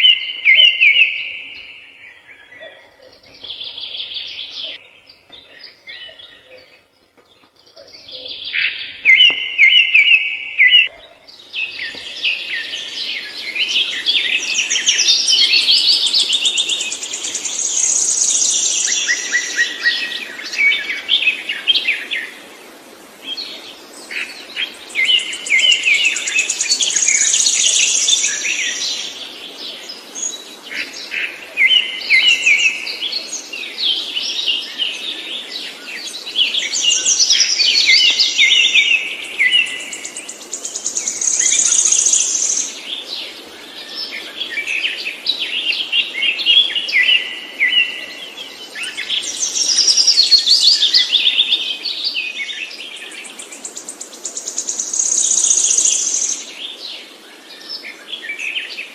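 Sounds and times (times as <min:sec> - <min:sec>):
songbird chirps and trills: 0:00.0 - 0:58.9.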